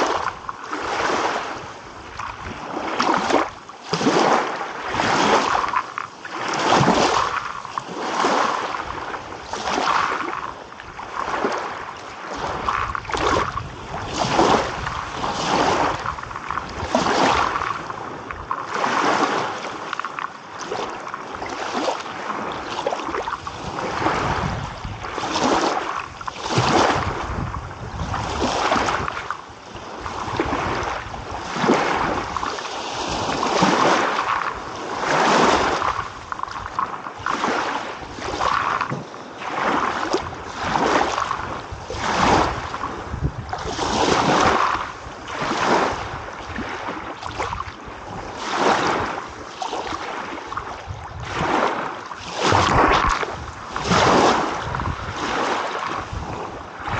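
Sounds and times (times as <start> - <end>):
small waves lapping: 0.0 - 56.9.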